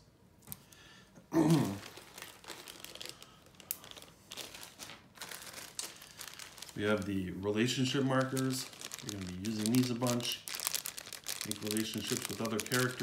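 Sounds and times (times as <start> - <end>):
plastic bags crinkling: 1.4 - 13.0.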